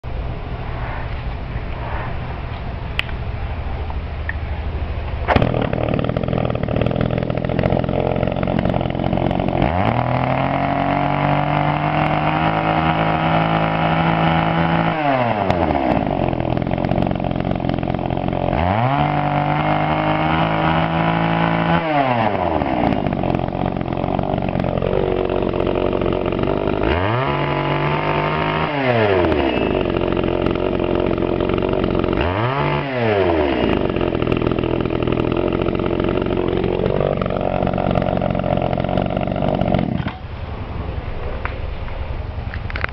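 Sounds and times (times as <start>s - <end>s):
chainsaw engine idling and revving: 5.1s - 40.3s, 42.6s - 42.9s.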